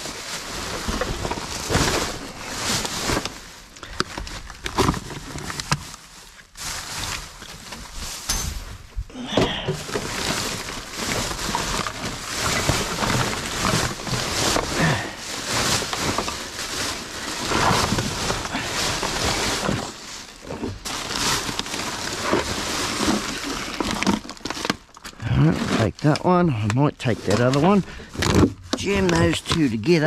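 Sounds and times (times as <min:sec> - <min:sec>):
plastic bags rustling in a dumpster: 0:00.0 - 0:30.0.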